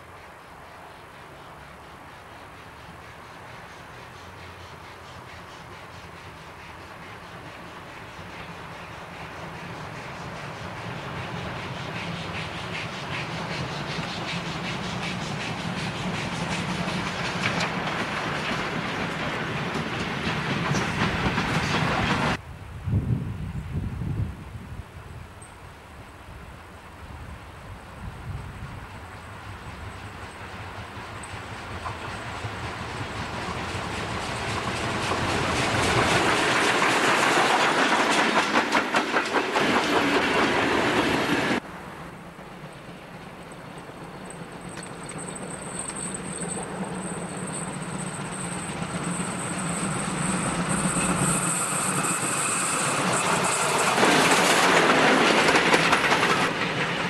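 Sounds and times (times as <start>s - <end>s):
train rumble: 0.0s - 57.0s
train wheels clattering over rail joints: 2.6s - 22.4s, 29.9s - 41.6s, 42.4s - 57.0s.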